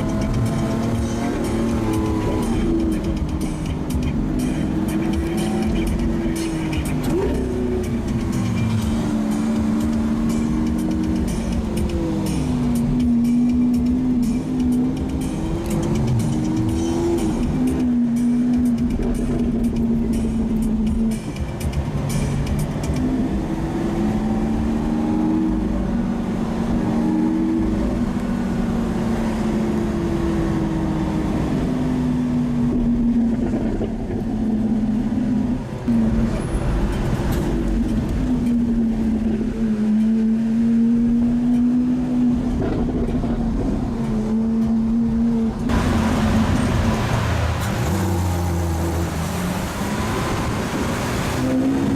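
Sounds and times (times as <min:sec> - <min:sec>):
sports car engine while driving: 0:00.0 - 0:51.9.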